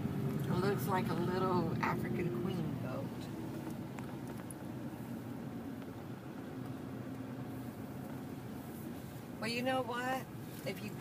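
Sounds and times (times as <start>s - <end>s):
truck engine hum inside cab: 0.0s - 11.0s.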